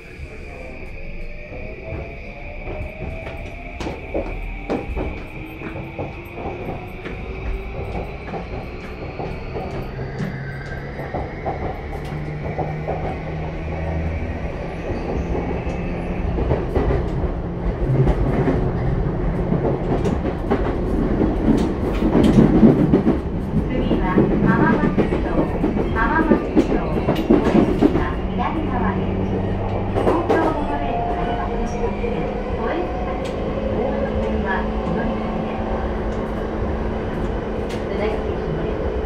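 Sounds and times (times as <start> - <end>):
wheels rumbling on rails: 0.0 - 39.0.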